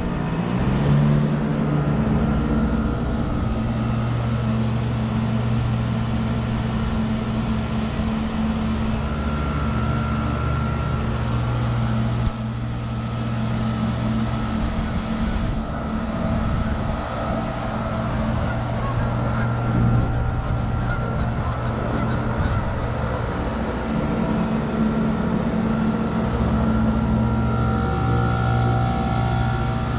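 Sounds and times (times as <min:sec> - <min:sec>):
heat pump humming: 0:00.0 - 0:29.9.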